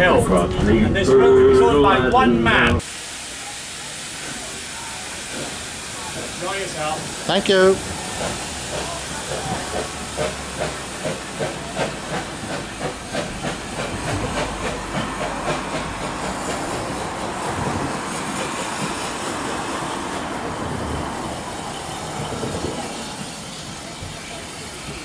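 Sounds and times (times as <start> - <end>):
steam locomotive chuffing: 0.0 - 25.0
steam hiss: 2.8 - 25.0.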